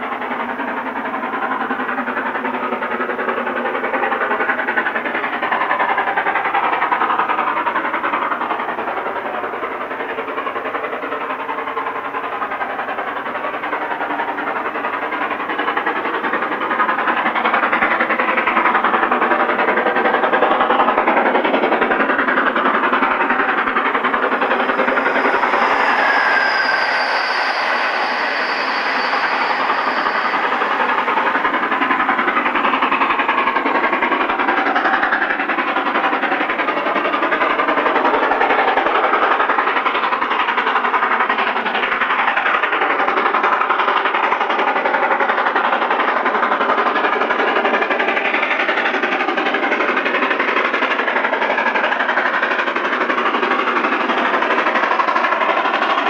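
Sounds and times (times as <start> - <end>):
steam locomotive exhaust blasting: 0.0 - 56.0
train running: 0.0 - 56.0.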